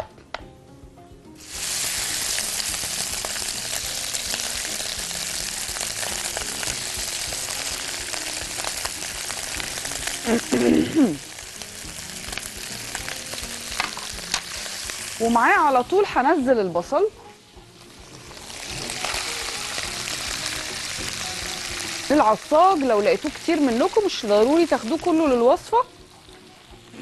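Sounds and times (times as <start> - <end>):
meat sizzling in a wok: 1.4 - 27.0.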